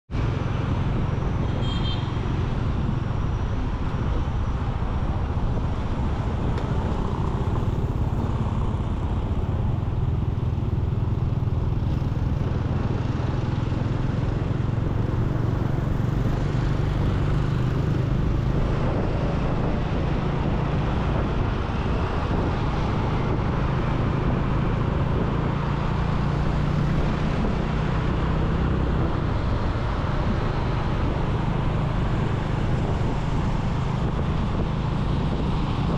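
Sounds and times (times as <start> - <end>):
motorcycle engine and road rumble: 0.1 - 35.9
surrounding traffic: 0.1 - 35.9.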